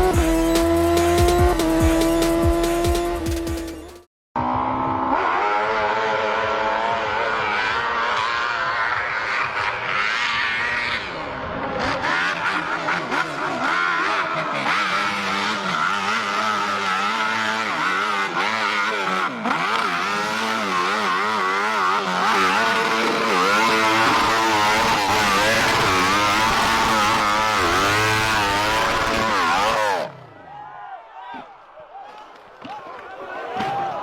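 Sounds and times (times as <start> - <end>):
motorcycle engines revving: 0.0 - 30.4.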